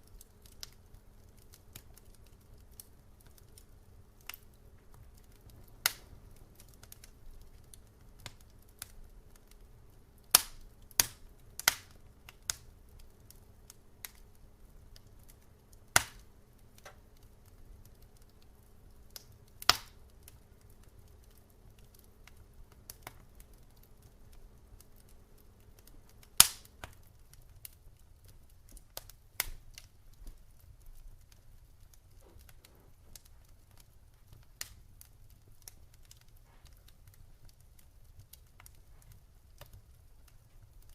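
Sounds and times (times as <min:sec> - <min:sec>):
low steady rumble: 0:00.0 - 0:40.8
faint low hum: 0:00.0 - 0:40.9
wood fire crackling: 0:00.0 - 0:40.9.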